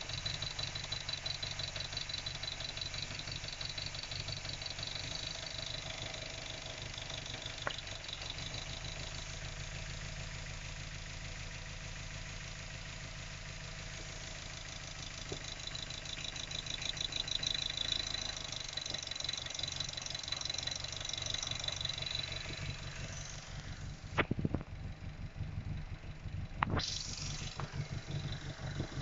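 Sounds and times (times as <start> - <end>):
car engine idling roughly: 0.0 - 29.0.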